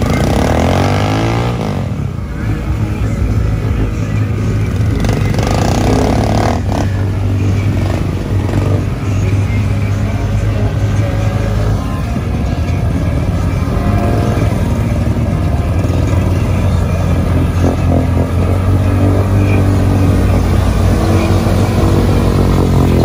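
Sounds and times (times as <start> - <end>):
off-road engines revving: 0.0 - 23.0.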